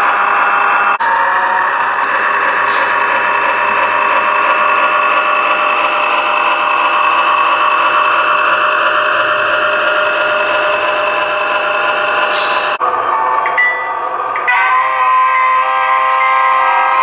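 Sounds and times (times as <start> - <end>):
even whine: 0.0 - 17.0
model locomotive engine drone: 0.0 - 17.0.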